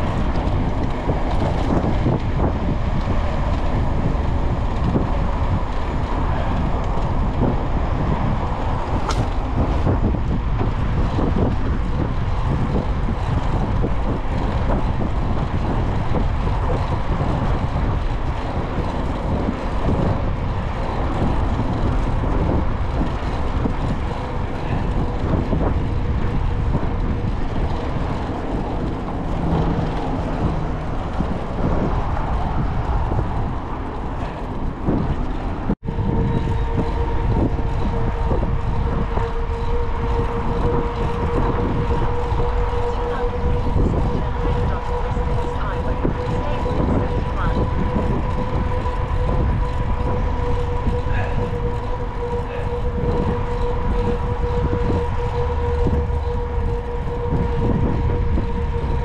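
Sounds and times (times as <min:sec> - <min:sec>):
mountain bike rolling noise: 0:00.0 - 0:59.0
wind rumbling over microphone: 0:00.0 - 0:59.0.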